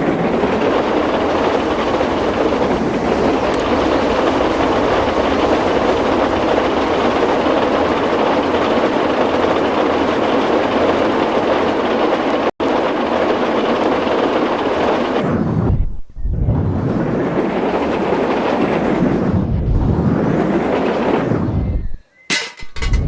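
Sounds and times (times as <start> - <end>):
train running: 0.0 - 15.3, 17.0 - 21.6.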